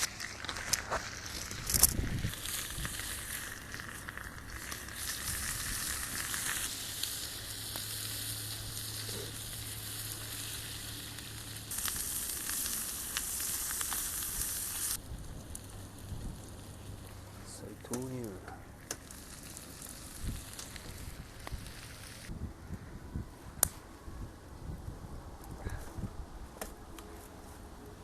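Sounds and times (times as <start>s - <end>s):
campfire sizzling hiss: 0.0s - 22.5s.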